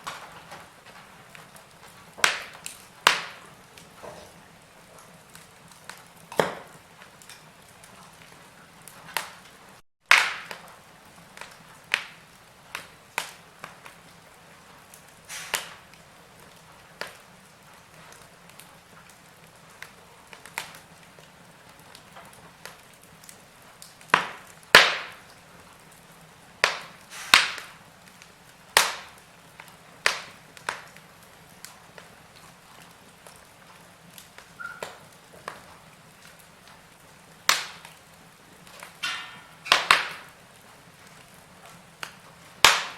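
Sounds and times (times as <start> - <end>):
faint steady hiss: 0.0 - 42.9
wood fire crackling and popping: 0.0 - 42.9.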